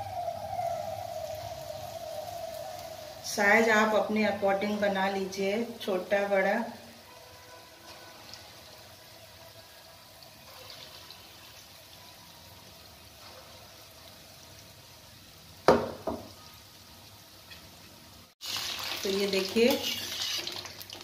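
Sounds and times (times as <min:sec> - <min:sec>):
dumplings sizzling in oil: 0:00.0 - 0:21.0.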